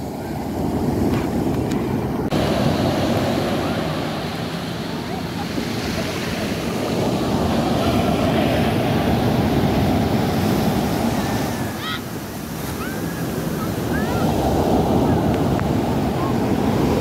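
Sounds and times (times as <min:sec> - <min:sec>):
waves crashing on beach: 0:00.0 - 0:17.0.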